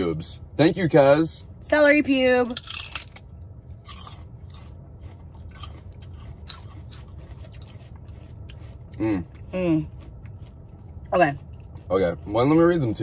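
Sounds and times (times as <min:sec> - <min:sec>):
person chewing and crunching food: 0:02.6 - 0:13.0.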